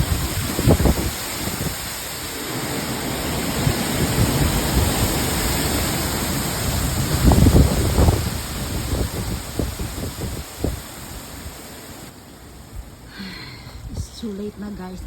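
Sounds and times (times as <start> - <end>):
wind buffeting microphone: 0.0 - 12.1, 13.6 - 15.0
hurricane wind with rain: 0.0 - 15.0.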